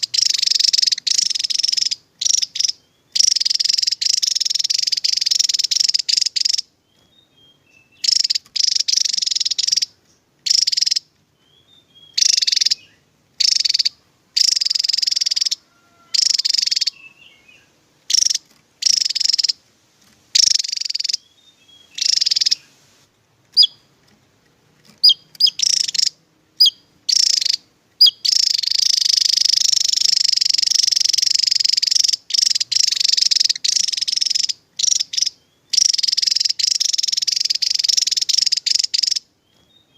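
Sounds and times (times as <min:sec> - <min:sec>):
bird singing trilled phrases: 0:00.0 - 0:19.6, 0:20.3 - 0:22.8, 0:23.5 - 0:24.2, 0:24.8 - 0:39.9.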